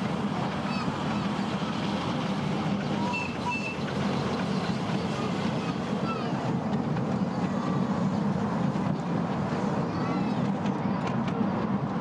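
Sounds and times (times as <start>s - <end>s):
train cars rumbling on track: 0.0s - 12.0s.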